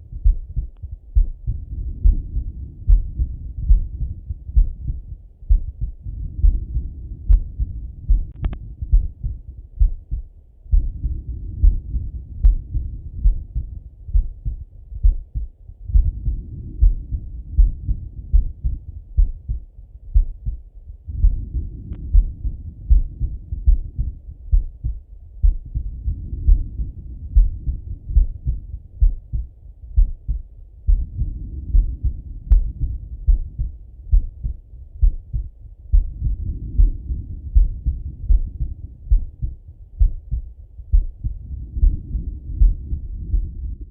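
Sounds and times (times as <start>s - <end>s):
muffled heartbeat thumps: 0.0s - 43.9s.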